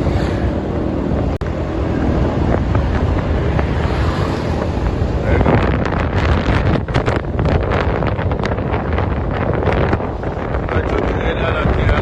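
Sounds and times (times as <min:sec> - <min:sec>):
vehicle rumble on road: 0:00.0 - 0:12.0
wind buffeting microphone: 0:00.0 - 0:12.0.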